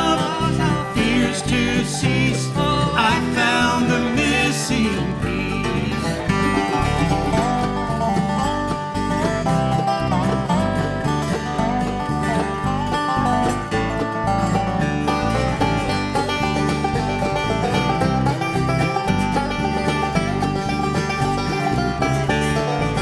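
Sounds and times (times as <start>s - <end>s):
string band playing: 0.0s - 23.0s.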